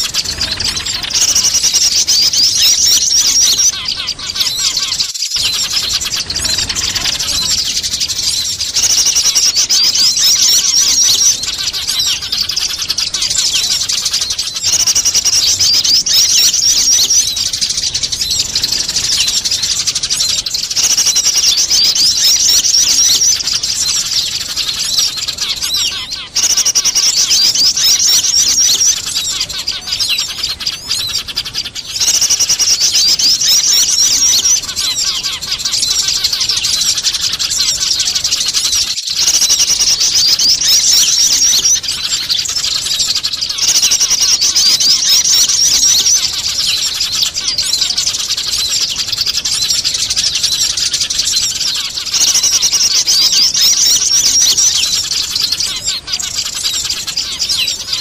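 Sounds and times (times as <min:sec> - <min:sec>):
small birds calling: 0:00.0 - 0:58.0
sparrows chattering agitatedly: 0:00.0 - 0:58.0.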